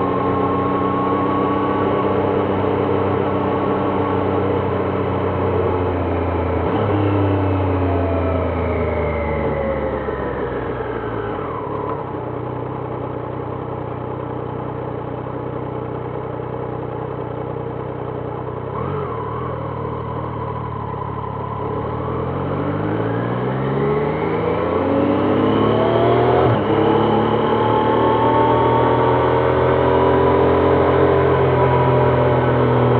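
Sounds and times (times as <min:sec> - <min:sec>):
motorcycle engine revving and idling: 0:00.0 - 0:32.9.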